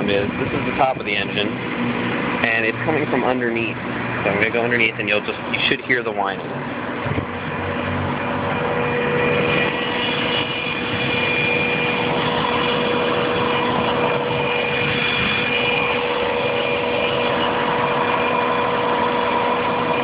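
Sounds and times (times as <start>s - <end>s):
car engine idling: 0.0s - 20.0s
steady whine from engine: 0.0s - 20.0s.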